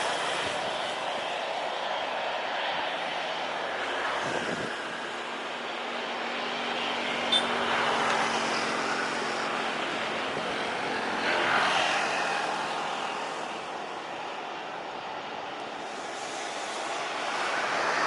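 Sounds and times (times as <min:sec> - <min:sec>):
jet engine rushing: 0:00.0 - 0:18.0.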